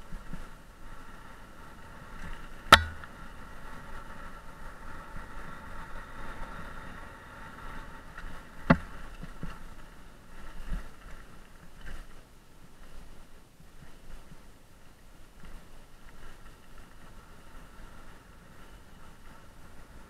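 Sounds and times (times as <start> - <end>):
bike tyres on dirt trail: 0.0 - 20.0.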